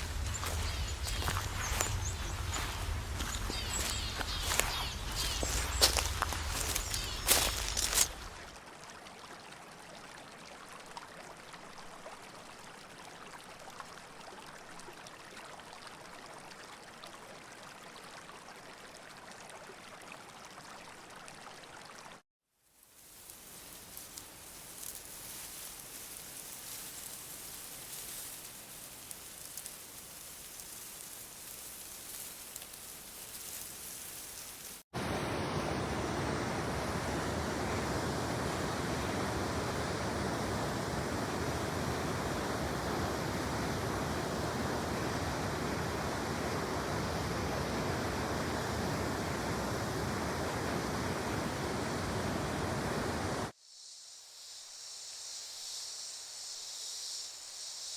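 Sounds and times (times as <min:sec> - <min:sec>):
rushing water: 0:00.0 - 0:22.2, 0:23.0 - 0:53.5.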